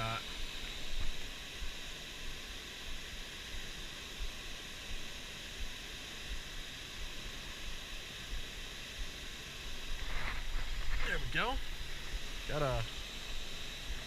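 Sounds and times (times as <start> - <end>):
creek water flowing: 0.1 - 14.0.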